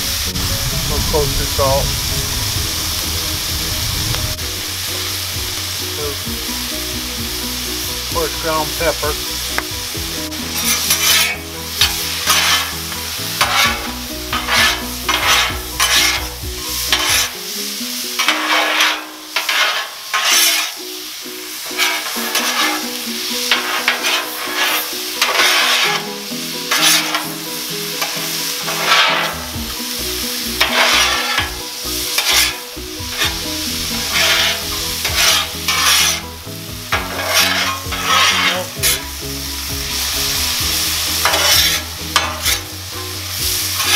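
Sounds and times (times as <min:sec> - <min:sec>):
vegetables sizzling: 0:00.0 - 0:43.9
metal spatulas scraping griddle: 0:04.7 - 0:43.9.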